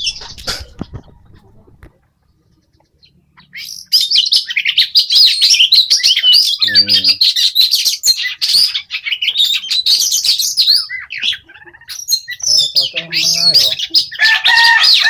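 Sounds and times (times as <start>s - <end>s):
bird singing chirps and trills: 2.3s - 15.0s.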